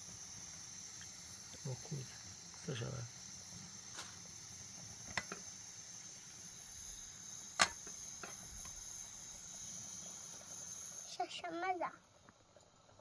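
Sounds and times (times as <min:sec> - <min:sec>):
crickets chirring: 0:00.0 - 0:12.8.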